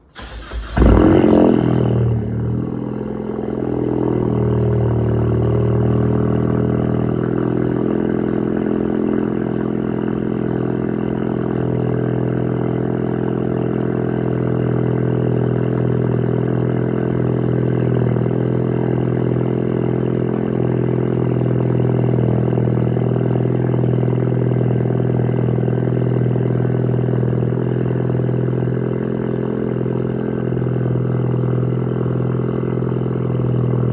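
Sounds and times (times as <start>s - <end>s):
car engine cold start and idle: 0.0s - 33.9s.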